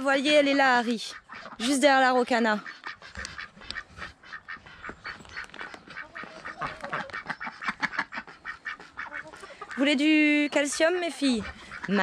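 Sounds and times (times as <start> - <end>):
ducks quacking: 0.3 - 12.0.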